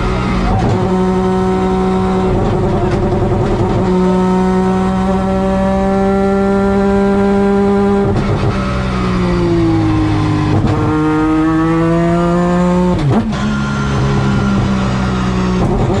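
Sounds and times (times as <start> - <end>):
rotary engine accelerating: 0.0 - 16.0.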